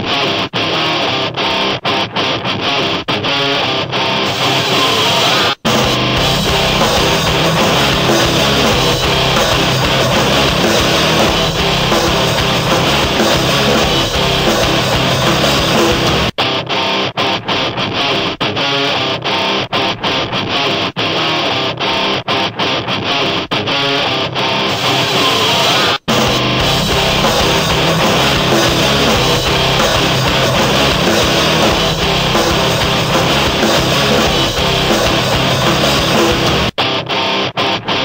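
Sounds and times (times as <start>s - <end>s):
rock music with guitar: 0.0s - 38.0s.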